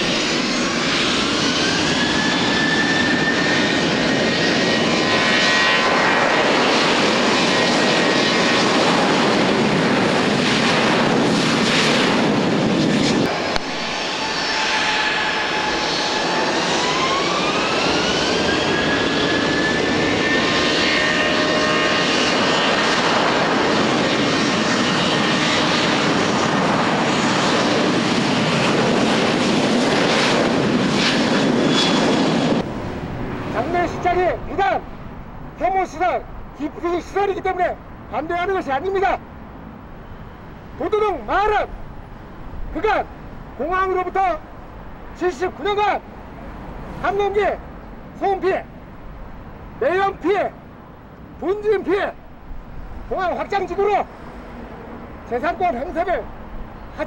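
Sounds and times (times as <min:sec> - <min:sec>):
jet airliner taking off: 0:00.0 - 0:57.0
jet engine whine rising: 0:00.0 - 0:57.0.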